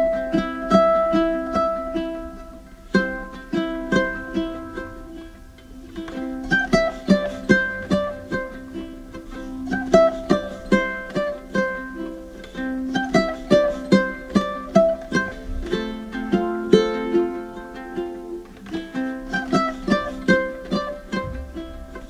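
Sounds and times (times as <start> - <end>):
plucked string melody: 0.0 - 22.0.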